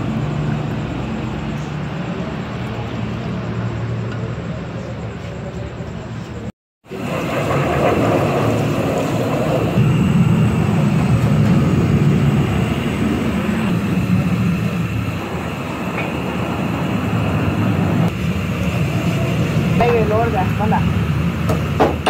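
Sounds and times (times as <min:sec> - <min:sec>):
gas burner flame roar: 0:00.0 - 0:22.0.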